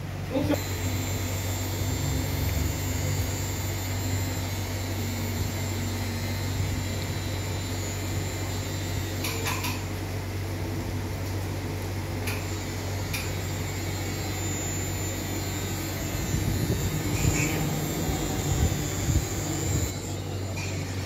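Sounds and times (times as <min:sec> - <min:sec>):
tattoo machine buzzing: 0:00.5 - 0:10.0, 0:12.2 - 0:21.0.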